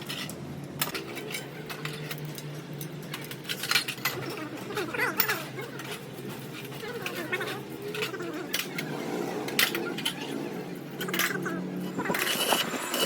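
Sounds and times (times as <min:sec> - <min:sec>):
metal tools clinking and knocking: 0:00.0 - 0:13.0.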